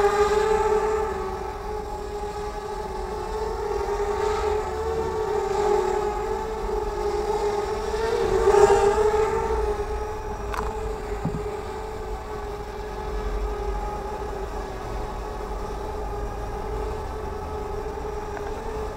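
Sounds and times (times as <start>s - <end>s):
quadcopter propellers whining: 0.0s - 18.9s.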